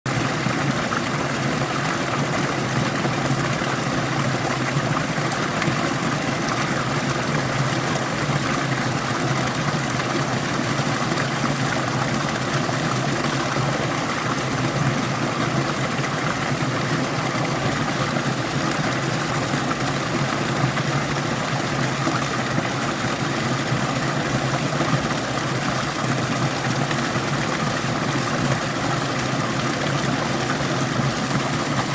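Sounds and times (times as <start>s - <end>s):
stream water rushing: 0.1s - 31.9s.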